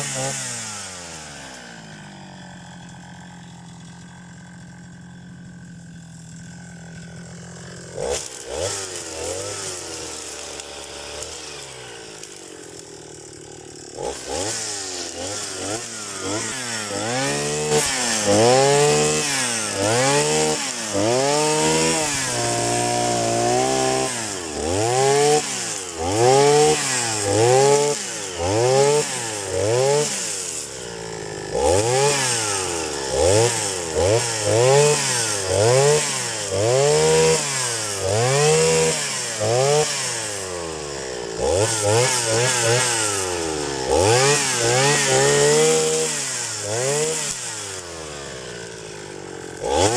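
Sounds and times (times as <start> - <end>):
brush cutter engine revving: 0.0 - 49.9.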